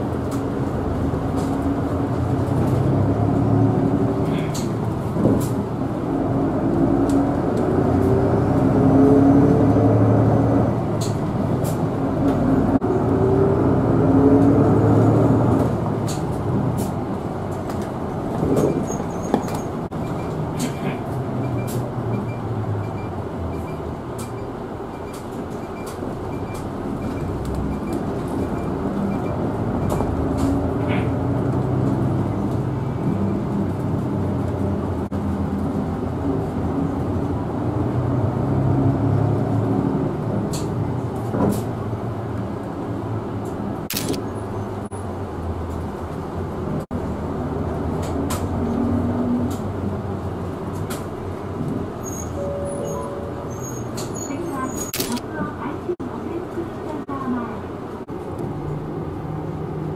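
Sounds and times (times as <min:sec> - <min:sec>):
bus engine and road noise: 0:00.0 - 0:59.9.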